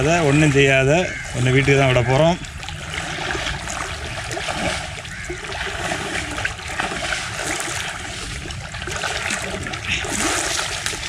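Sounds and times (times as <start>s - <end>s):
water splashing around legs: 0.0s - 11.0s.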